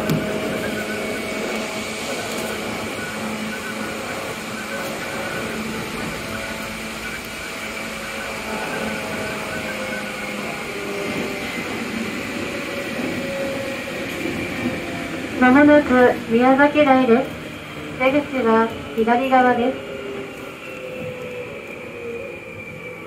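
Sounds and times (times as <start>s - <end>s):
train motor whining: 0.0s - 23.0s
train wheels rumbling on rail: 0.0s - 23.0s.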